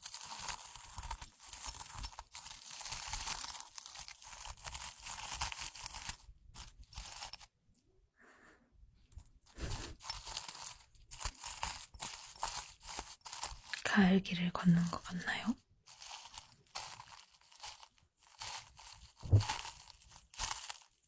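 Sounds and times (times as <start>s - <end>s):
dried flowers crackling and rustling: 0.0s - 7.5s, 9.3s - 21.0s.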